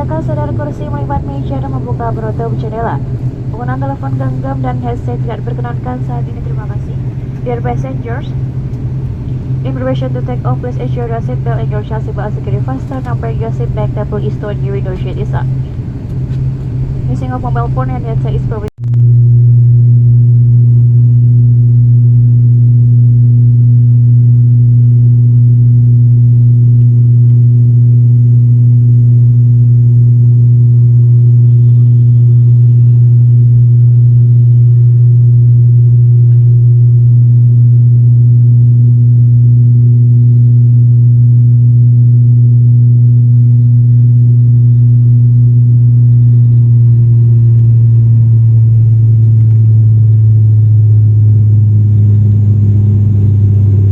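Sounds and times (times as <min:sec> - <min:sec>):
turboprop propeller drone in cabin: 0:00.0 - 0:53.9.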